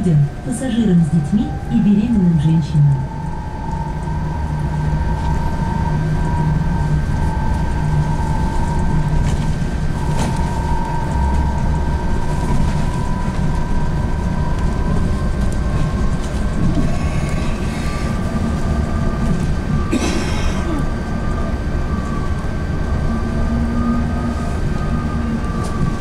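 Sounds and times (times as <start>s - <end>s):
road and tyre rumble: 0.1s - 26.0s.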